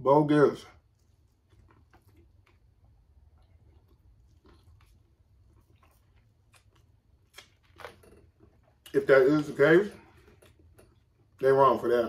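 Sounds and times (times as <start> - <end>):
low steady hum: 0.0 - 12.0
chewing corn on the cob: 0.8 - 11.5.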